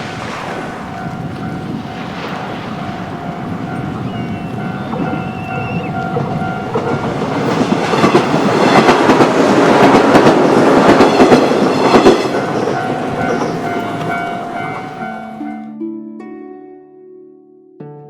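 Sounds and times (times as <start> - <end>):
level crossing alarm ringing: 0.5 - 15.7
train wheels clattering over rail joints: 0.6 - 15.2.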